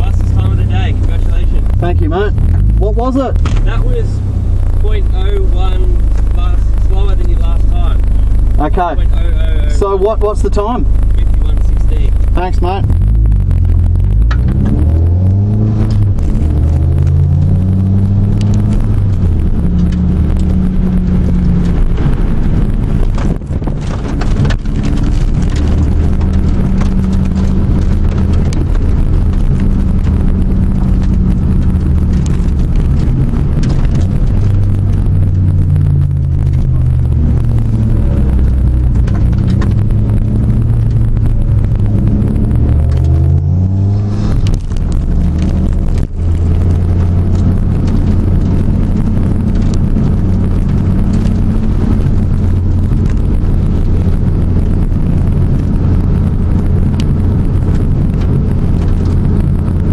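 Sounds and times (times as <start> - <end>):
car engine heard from inside: 0.0 - 59.9.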